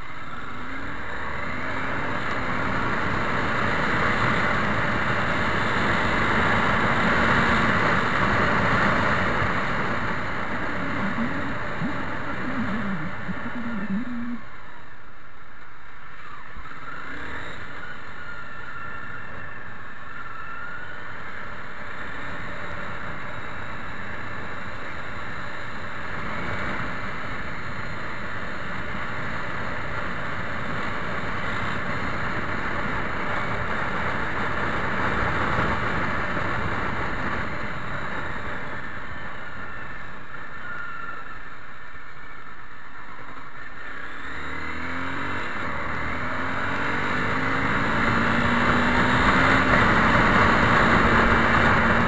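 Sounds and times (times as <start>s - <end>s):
motorcycle engine riding: 0.0s - 14.8s, 16.1s - 40.6s, 42.2s - 52.0s.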